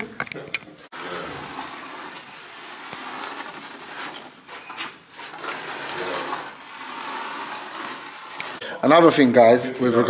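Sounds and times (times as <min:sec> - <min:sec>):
trowel scraping floor: 0:00.8 - 0:09.2.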